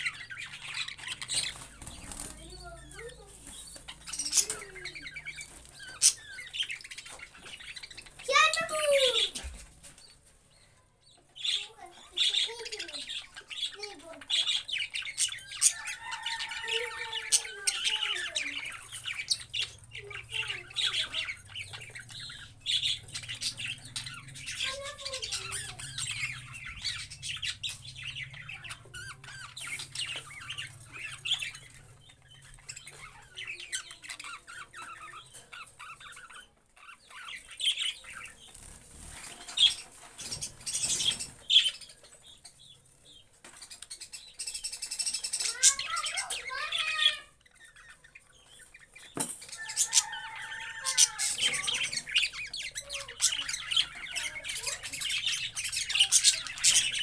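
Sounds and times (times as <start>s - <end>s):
budgerigars chattering: 0.0s - 8.5s, 11.4s - 57.0s.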